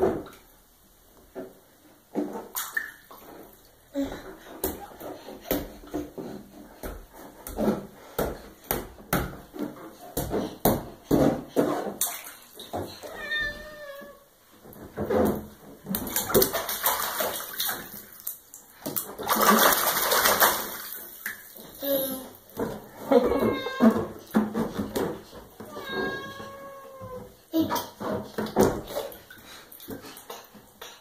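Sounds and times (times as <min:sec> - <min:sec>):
baby splashing bathwater: 0:02.1 - 0:13.2, 0:14.7 - 0:31.0.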